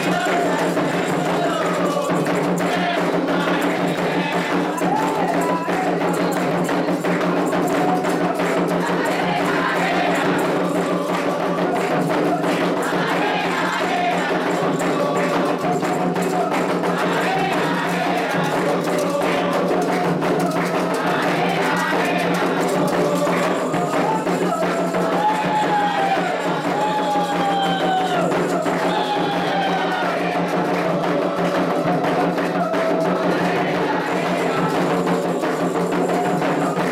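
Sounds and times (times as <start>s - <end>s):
group singing: 0.0s - 36.9s
hand drums and percussion: 0.0s - 36.9s.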